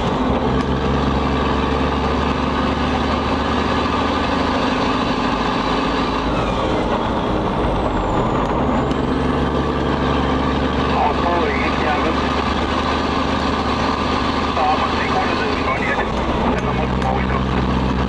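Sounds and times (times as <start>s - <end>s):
diesel truck engine droning: 0.0s - 18.0s
road and tyre noise: 0.0s - 18.0s.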